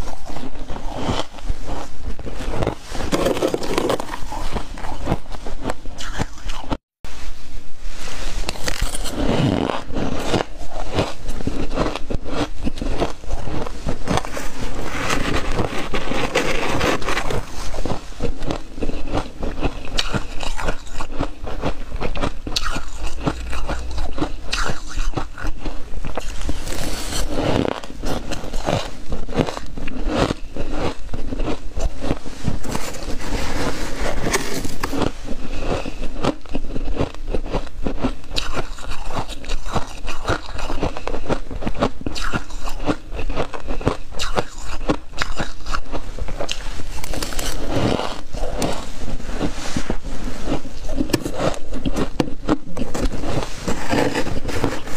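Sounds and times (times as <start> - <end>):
metal spoon scraping frost: 0.0 - 6.6, 8.4 - 37.7, 42.0 - 54.9
ice being chewed crunching: 0.0 - 6.8, 8.4 - 54.9.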